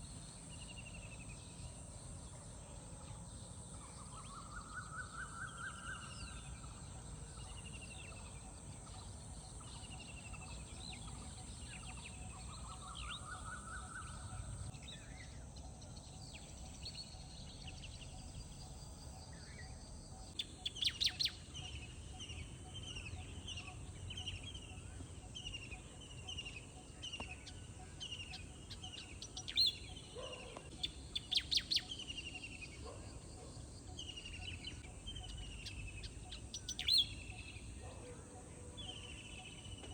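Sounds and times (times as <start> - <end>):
wild birds chirping and singing: 0.0 - 39.9.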